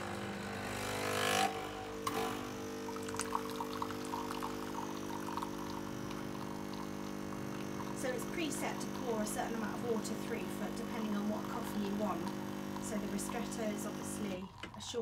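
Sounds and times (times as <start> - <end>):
coffee machine pump humming: 0.0 - 15.0
coffee pouring into mug: 2.0 - 15.0.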